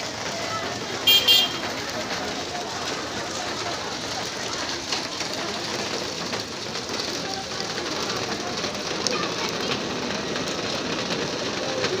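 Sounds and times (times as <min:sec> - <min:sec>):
steady rain splashing: 0:00.0 - 0:12.0.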